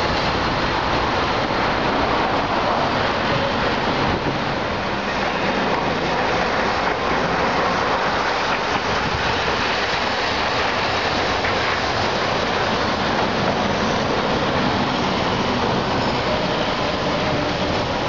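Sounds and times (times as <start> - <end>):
city traffic: 0.0 - 18.0
streetcar rumbling past: 0.0 - 18.0.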